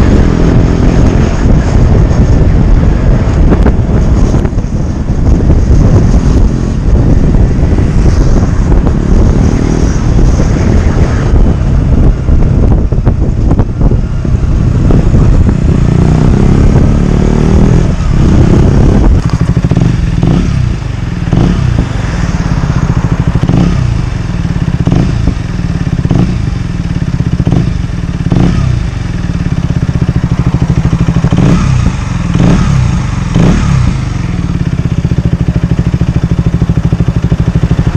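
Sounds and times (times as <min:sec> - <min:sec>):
motorcycle engine revving and idling: 0:00.0 - 0:37.9.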